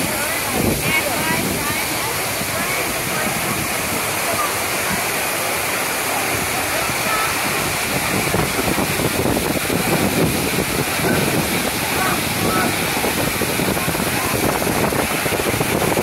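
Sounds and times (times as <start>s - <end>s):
faint voices of swimmers: 0.0s - 16.0s
waterfall splashing into pool: 0.0s - 16.0s.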